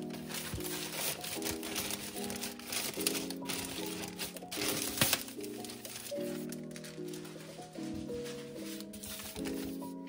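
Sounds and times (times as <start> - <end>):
plastic packaging crinkling: 0.0 - 10.0
soft instrumental music: 0.0 - 10.0.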